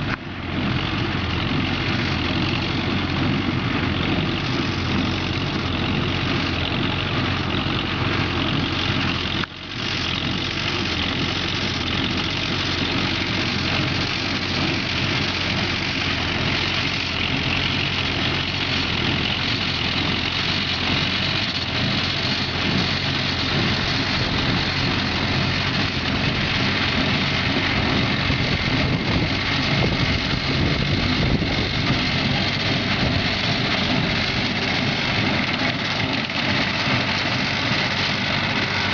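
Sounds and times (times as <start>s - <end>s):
tractor engine and hay baler running: 0.0s - 38.9s.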